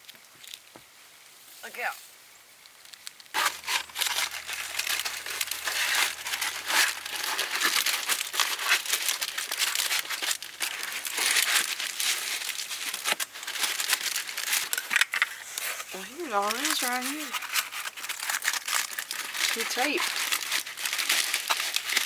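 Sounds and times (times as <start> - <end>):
crumpled material crinkling: 2.7 - 22.0.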